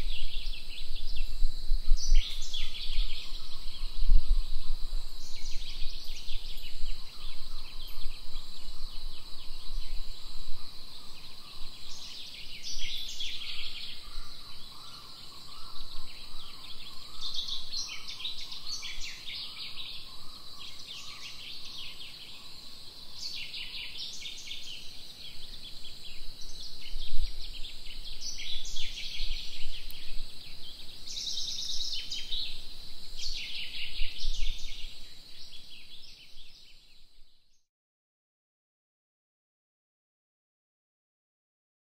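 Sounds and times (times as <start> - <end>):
insects buzzing trilling: 0.0 - 37.5
insects high drone: 0.0 - 37.5.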